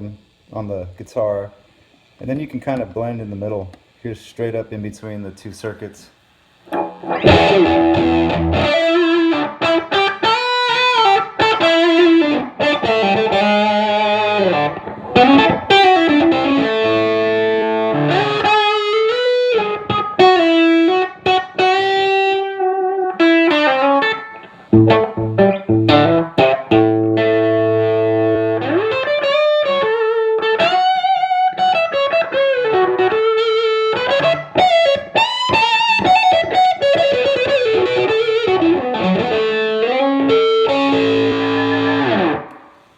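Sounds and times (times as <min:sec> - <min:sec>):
distorted electric guitar riffs: 0:06.7 - 0:42.9.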